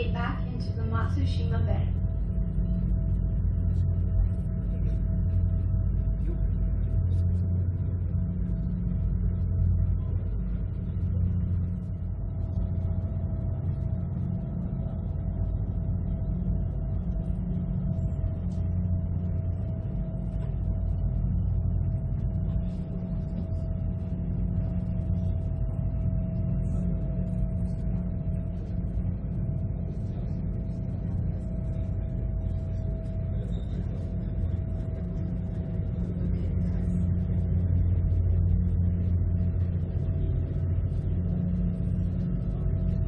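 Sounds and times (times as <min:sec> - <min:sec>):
boat engine droning: 0:00.0 - 0:43.0
faint constant whine: 0:00.0 - 0:43.0.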